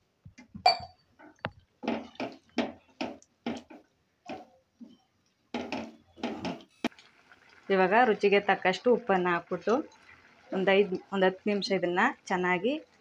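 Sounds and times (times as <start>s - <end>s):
wet stirring in a pot: 1.2s - 13.0s.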